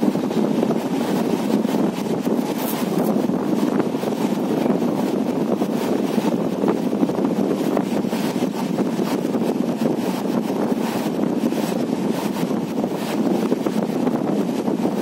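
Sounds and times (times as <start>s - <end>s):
train rumbling: 0.0s - 14.6s
wind on microphone: 0.0s - 15.0s.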